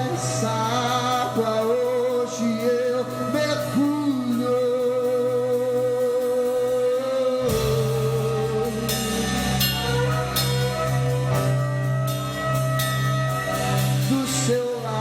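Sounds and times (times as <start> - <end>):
bass and drums: 0.0 - 15.0.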